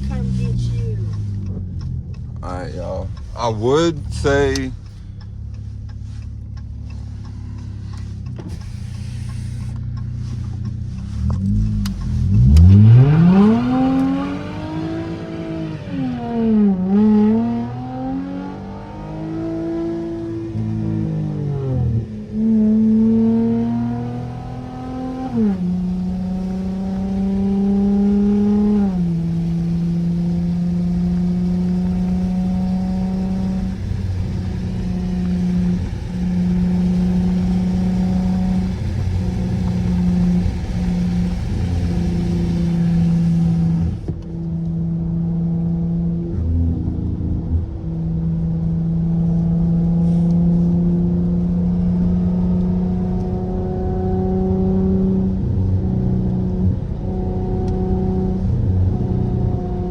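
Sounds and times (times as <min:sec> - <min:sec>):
car exhaust droning: 0:00.0 - 0:59.9.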